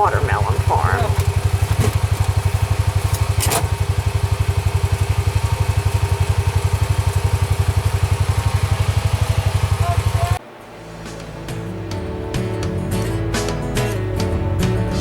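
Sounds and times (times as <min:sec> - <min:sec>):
engine idling: 0:00.0 - 0:14.8.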